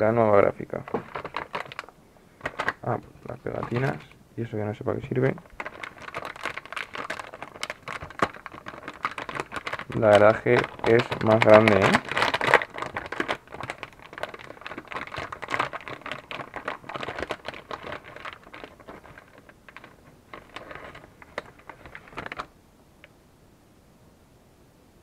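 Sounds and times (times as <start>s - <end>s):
plastic bag crinkling: 0.0s - 4.2s, 5.0s - 22.5s.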